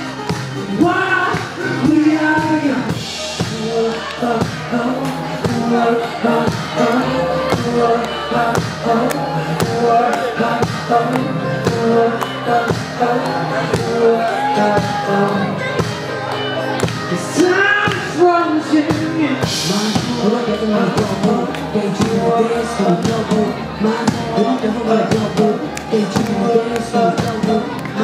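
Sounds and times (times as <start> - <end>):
guitar: 0.0 - 28.0
man singing into microphone: 0.6 - 16.1, 16.9 - 28.0.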